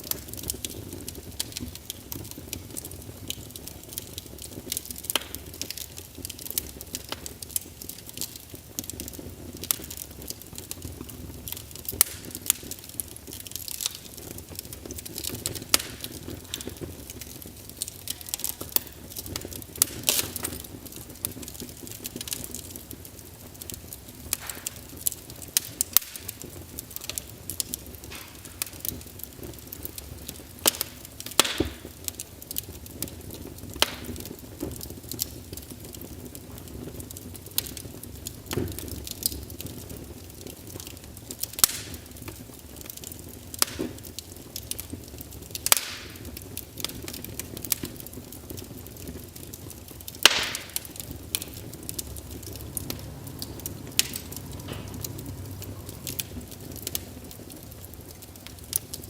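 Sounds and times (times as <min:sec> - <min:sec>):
flames burning: 0:00.0 - 0:59.0
wood fire crackling and popping: 0:00.0 - 0:59.0.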